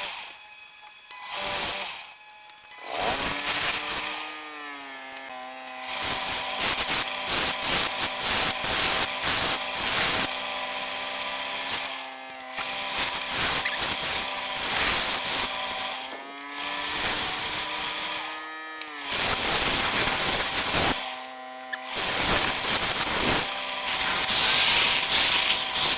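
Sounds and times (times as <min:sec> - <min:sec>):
lathe motor hum: 0:00.0 - 0:25.9
tool scraping spinning wood: 0:01.2 - 0:25.9.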